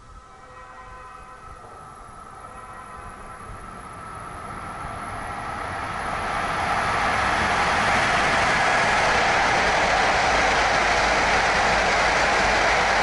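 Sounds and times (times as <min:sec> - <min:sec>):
train approaching: 0:00.0 - 0:13.0.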